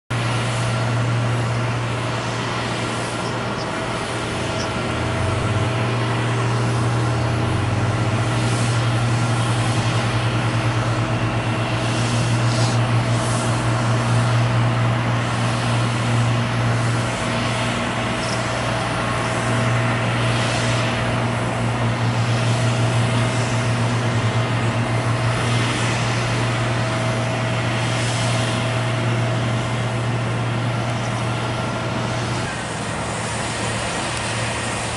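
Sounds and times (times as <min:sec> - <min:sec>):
jet engines at taxi power: 0:00.1 - 0:34.9.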